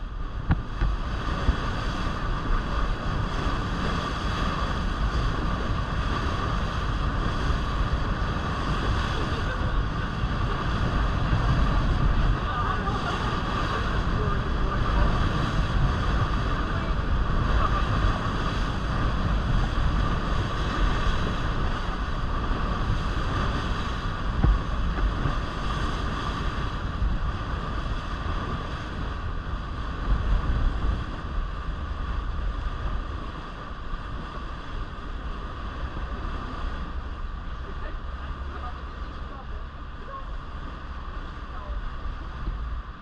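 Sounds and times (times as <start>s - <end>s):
boat engine droning: 0.0s - 43.0s
wind buffeting microphone: 0.0s - 43.0s.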